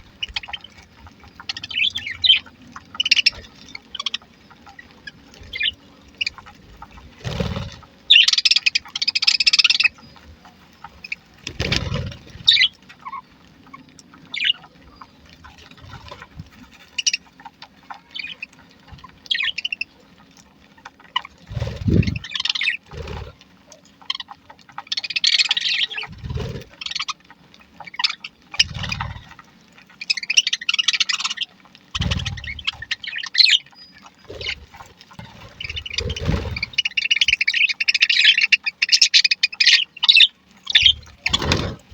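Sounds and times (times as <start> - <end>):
budgerigars chirping and chattering: 0.0 - 41.9.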